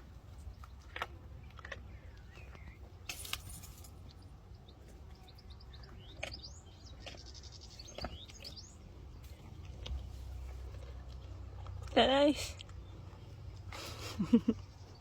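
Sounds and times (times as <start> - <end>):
birds chirping: 0.0 - 15.0
donkey chewing crunchy food: 0.0 - 15.0.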